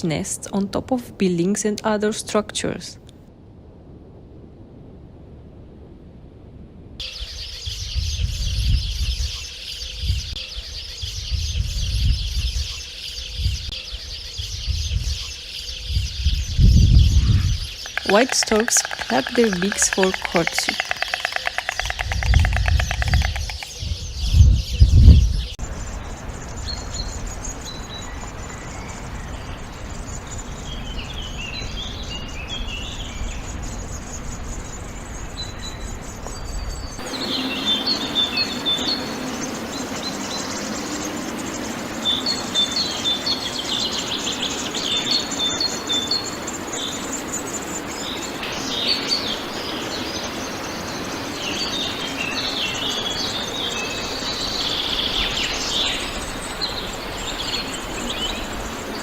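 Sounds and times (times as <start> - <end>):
steady outdoor hiss: 0.0 - 59.0
small birds chirping and singing: 7.0 - 59.0.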